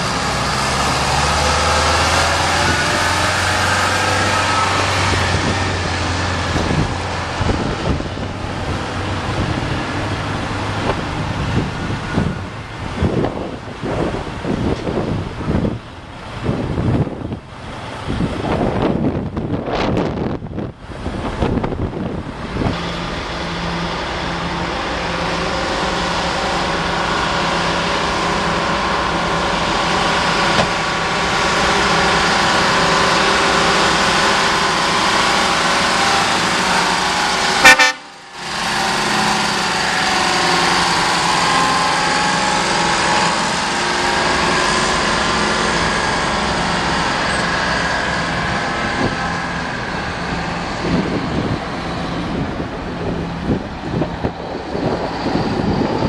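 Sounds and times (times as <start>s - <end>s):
diesel truck driving past: 0.0s - 56.0s.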